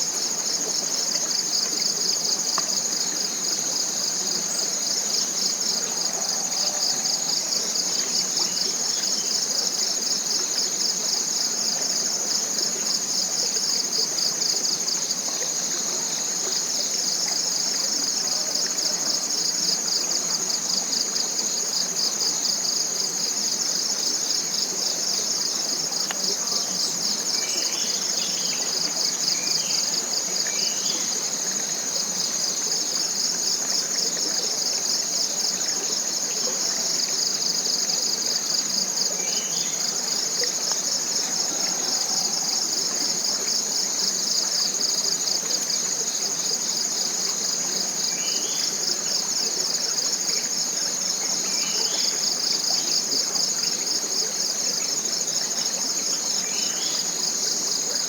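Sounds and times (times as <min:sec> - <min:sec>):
forest insects trilling: 0:00.0 - 0:58.0.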